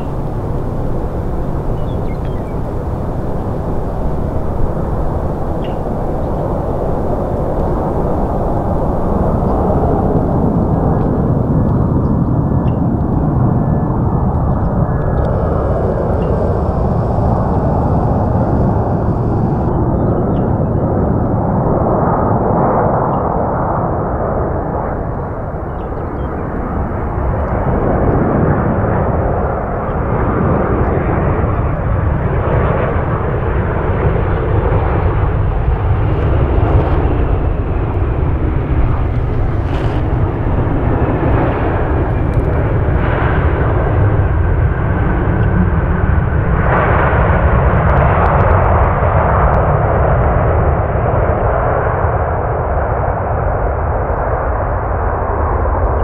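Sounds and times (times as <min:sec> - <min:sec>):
low steady hum: 0:00.0 - 0:47.1
jet engine noise: 0:00.0 - 0:56.0.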